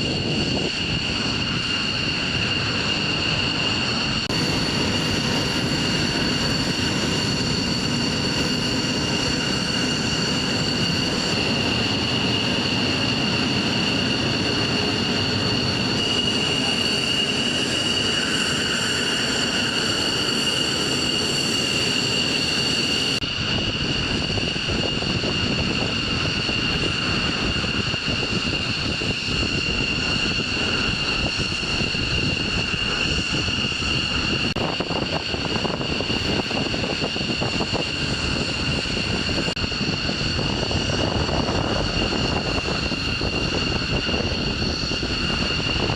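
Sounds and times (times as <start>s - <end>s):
constant rumbling noise: 0.0s - 45.9s
machinery high-pitched whine: 0.0s - 45.9s.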